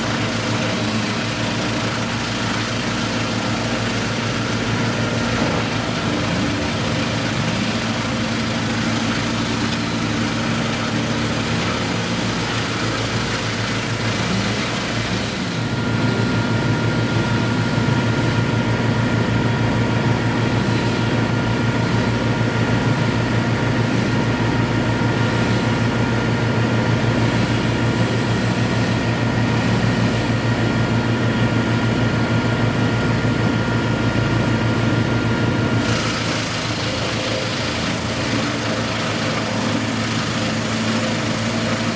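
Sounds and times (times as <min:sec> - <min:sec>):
heavy engine running: 0:00.0 - 0:41.9.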